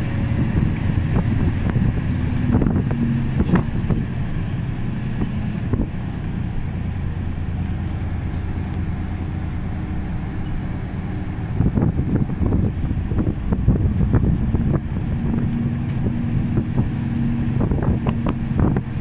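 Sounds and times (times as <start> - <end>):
bus engine hum: 0.0 - 19.0
road noise: 0.0 - 19.0.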